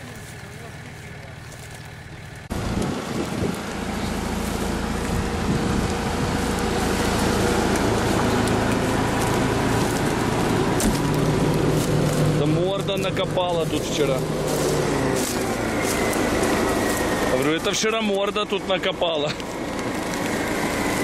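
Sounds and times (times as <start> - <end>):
truck engine running under load: 0.0 - 21.0
tyres churning through mud: 0.0 - 21.0.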